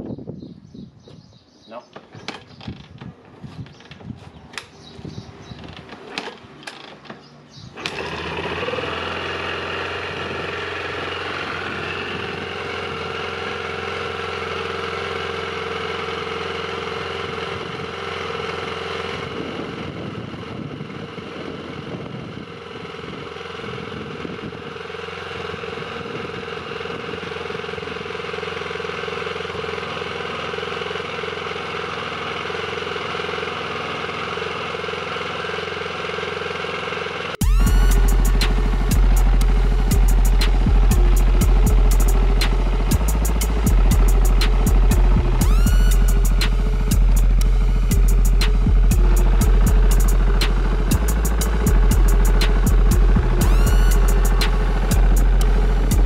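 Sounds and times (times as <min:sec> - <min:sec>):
motorcycle engine kick-starting: 0:00.8 - 0:56.0
engine idling: 0:01.7 - 0:56.0.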